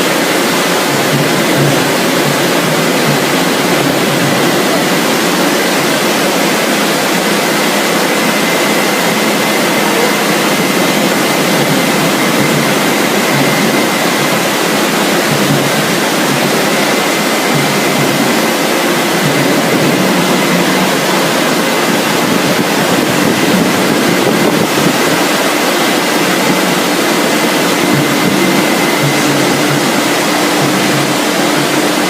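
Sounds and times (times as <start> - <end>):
machinery rushing noise: 0.0 - 32.0.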